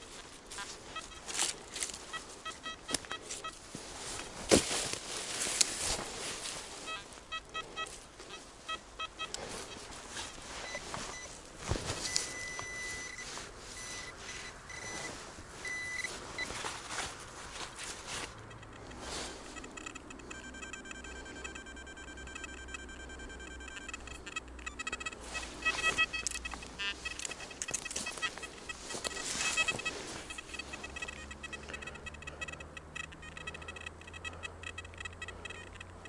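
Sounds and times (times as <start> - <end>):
knocks and scrapes against soil: 0.0 - 20.2, 24.1 - 34.5
metal detector beeps and tones: 0.0 - 36.0.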